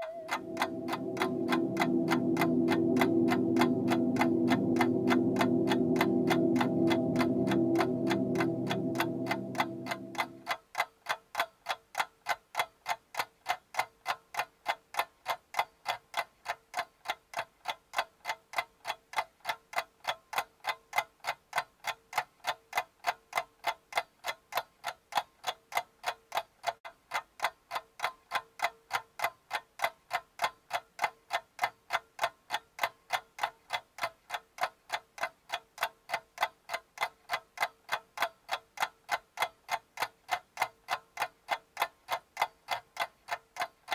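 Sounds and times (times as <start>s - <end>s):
clock ticking: 0.0s - 43.9s.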